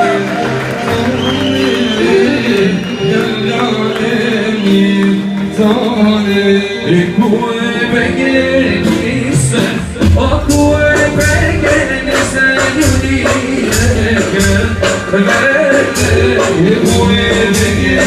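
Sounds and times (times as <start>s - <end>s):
live band music: 0.0s - 18.0s
man singing: 0.0s - 18.0s.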